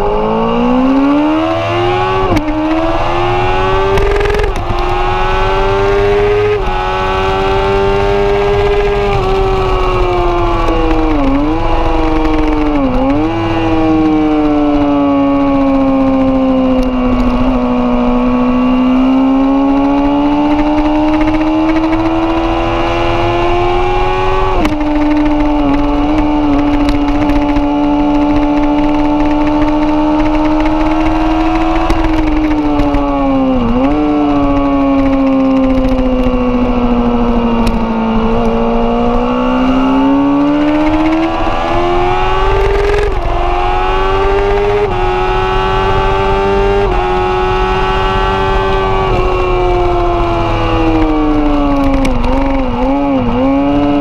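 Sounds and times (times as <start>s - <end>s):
motorcycle engine at high revs: 0.0s - 54.0s
wind noise: 0.0s - 54.0s.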